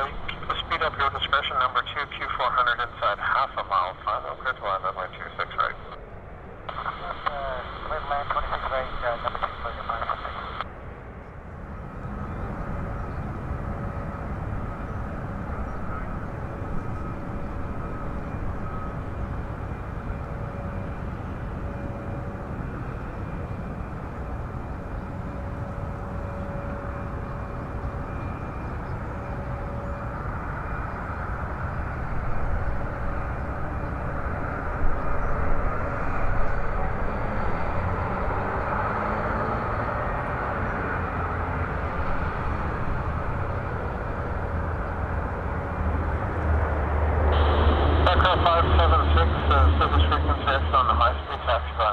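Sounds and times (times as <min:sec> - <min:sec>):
turboprop engines droning: 0:00.0 - 0:51.9.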